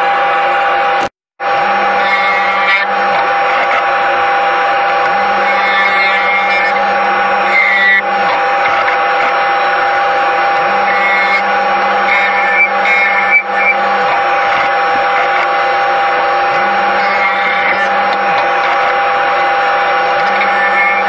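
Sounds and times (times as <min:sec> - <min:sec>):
high-pitched lathe whine: 0:00.0 - 0:21.0
tool cutting wood: 0:00.1 - 0:21.0.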